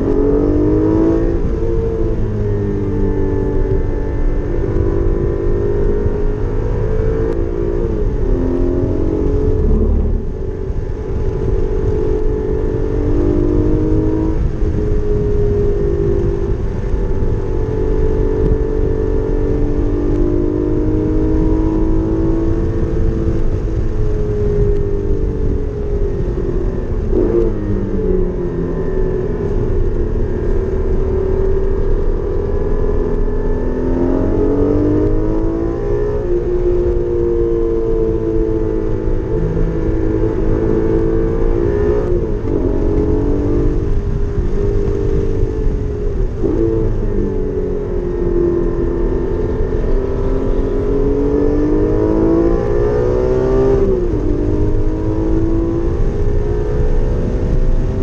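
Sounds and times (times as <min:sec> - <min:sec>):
sports car engine accelerating: 0:00.0 - 0:58.0.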